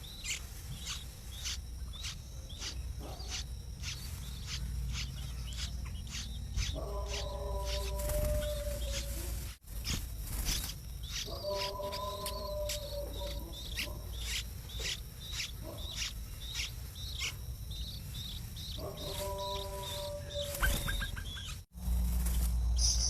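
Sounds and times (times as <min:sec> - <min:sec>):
small bird chirping: 0:00.0 - 0:23.0.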